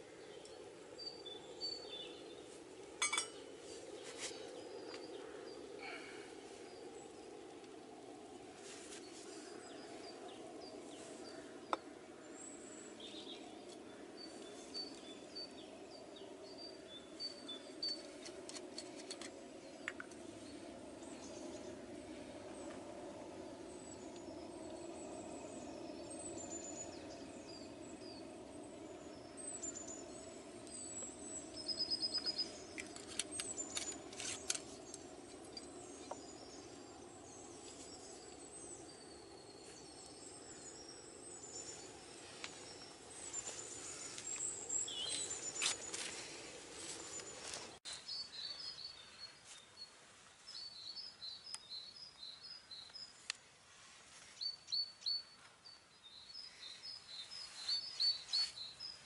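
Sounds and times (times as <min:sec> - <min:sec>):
birds singing and chirping: 0:00.0 - 0:07.6, 0:09.1 - 0:49.9, 0:50.5 - 0:53.3, 0:54.4 - 0:59.0.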